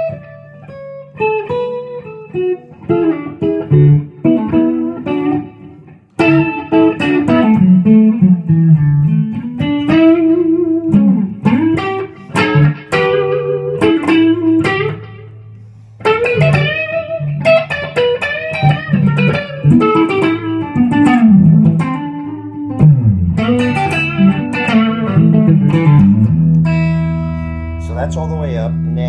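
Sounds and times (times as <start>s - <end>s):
electric guitar lead lines: 0.0s - 29.0s.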